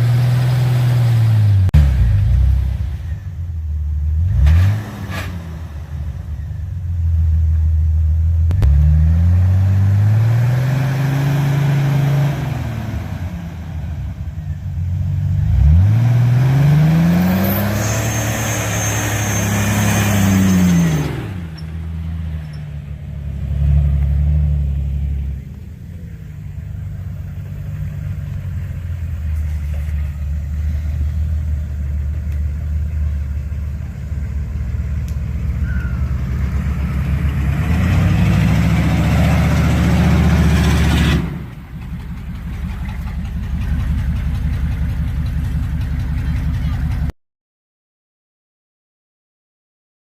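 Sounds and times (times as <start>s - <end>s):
off-road engine revving hard: 0.0s - 3.2s, 4.0s - 6.5s, 8.5s - 25.5s, 27.6s - 47.1s.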